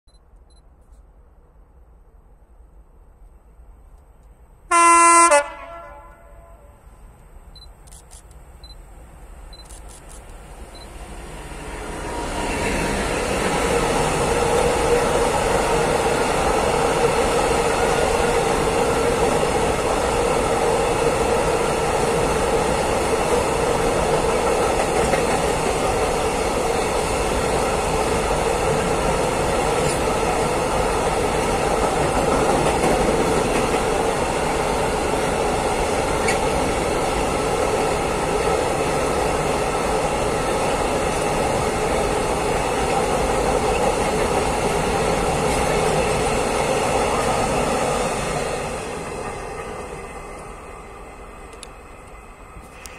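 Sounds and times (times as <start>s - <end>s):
train wheel and rail noise: 0.1s - 52.9s
diesel locomotive passing: 4.7s - 7.6s, 10.3s - 52.9s.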